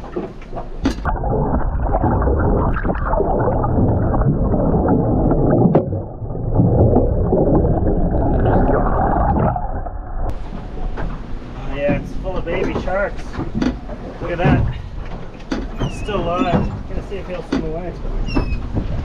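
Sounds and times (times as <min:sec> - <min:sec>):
rush of wind and water: 0:00.0 - 0:19.0.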